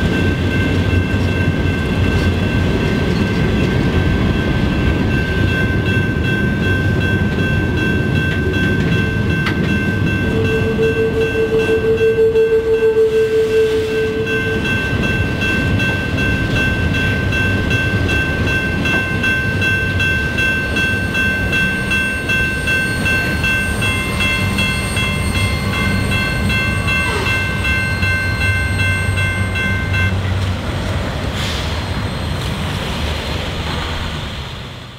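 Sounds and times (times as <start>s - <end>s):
crossing bell ringing: 0.0s - 30.5s
train wheels rumbling on rail: 0.0s - 34.9s.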